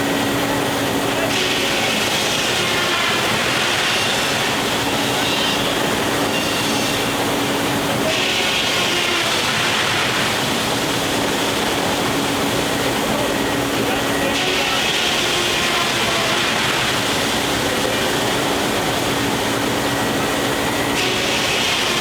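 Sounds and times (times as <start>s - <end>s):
high steam hiss: 0.0s - 22.0s
sawmill machinery noise: 0.0s - 22.0s.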